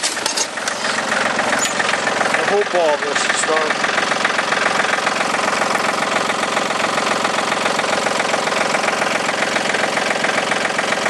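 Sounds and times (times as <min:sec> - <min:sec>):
diesel tractor engine clattering: 0:00.0 - 0:11.0.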